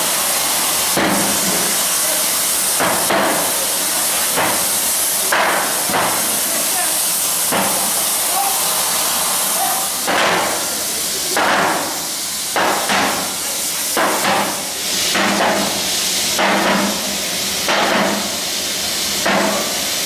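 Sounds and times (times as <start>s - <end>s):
gas torch hissing: 0.0s - 20.0s.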